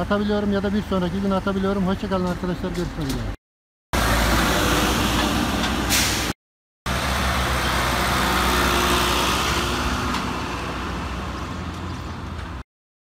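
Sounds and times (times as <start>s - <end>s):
road noise: 0.0s - 3.4s, 4.0s - 12.6s.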